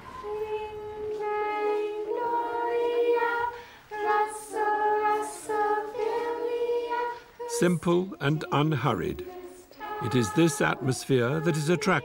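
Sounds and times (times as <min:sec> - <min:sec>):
women and children singing: 0:00.0 - 0:12.0.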